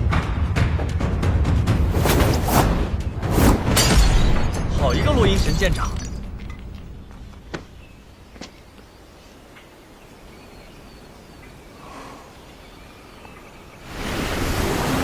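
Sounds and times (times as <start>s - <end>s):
distant birds chirping: 2.2s - 14.4s.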